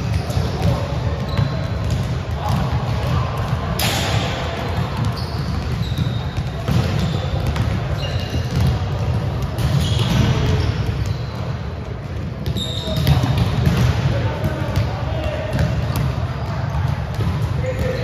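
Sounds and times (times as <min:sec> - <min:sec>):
volleyballs hit and bouncing: 0:00.0 - 0:18.0.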